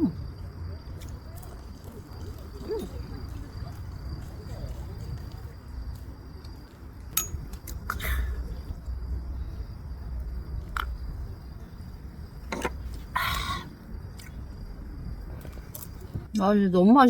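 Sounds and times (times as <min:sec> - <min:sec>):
steady low rumble: 0:00.2 - 0:16.4.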